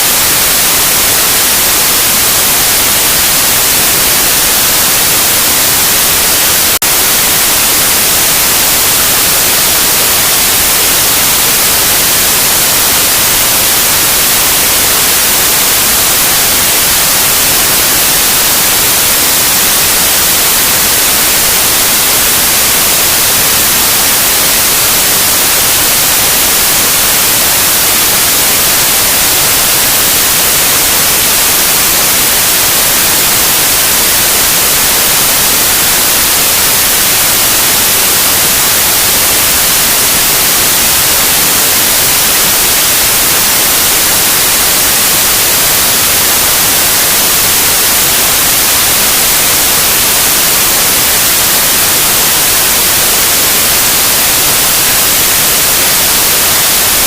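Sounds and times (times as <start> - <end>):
loud white noise hiss: 0.0 - 57.0.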